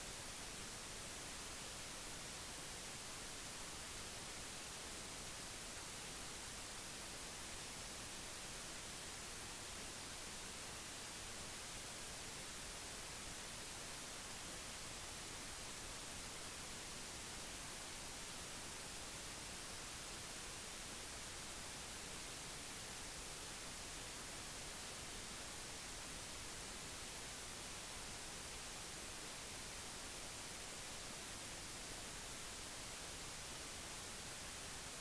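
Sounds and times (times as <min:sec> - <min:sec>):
recording hiss: 0:00.0 - 0:35.0.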